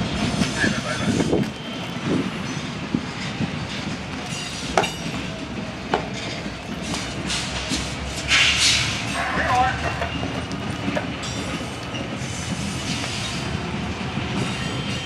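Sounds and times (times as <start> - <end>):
train wheels rumbling on rail: 0.0 - 15.0
wheels clacking over rail joints: 0.0 - 15.0.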